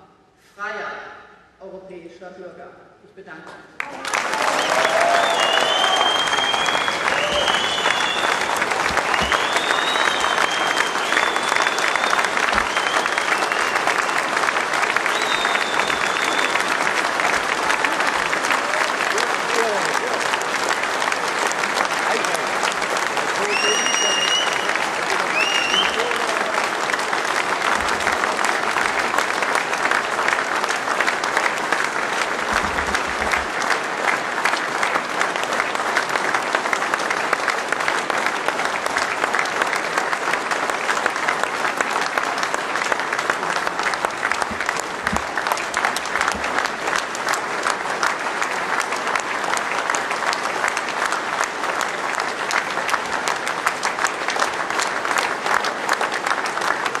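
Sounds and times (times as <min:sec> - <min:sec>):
large crowd applauding: 0:03.8 - 0:57.0.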